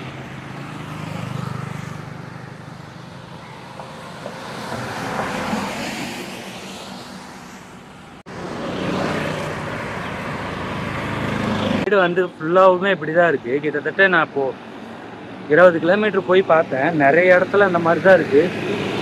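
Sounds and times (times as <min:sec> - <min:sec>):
engine hum: 0:00.0 - 0:19.0
vehicles passing on wet road: 0:00.0 - 0:19.0.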